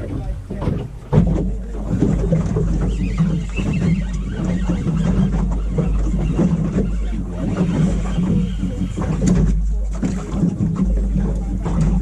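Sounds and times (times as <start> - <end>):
boat engine low rumble: 0.0 - 12.0
water noise: 0.0 - 12.0
wind on microphone: 0.0 - 12.0.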